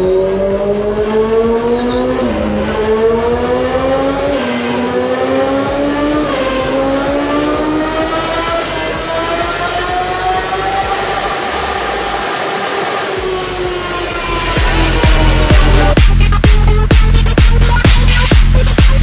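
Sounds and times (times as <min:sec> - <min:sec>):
motorcycle engine revving hard: 0:00.0 - 0:19.0.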